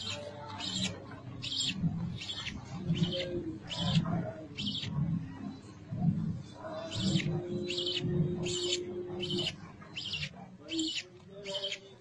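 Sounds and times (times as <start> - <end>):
nestlings chirping: 0.0 - 5.6, 6.8 - 12.0
low rhythmic pulsing: 0.0 - 11.0.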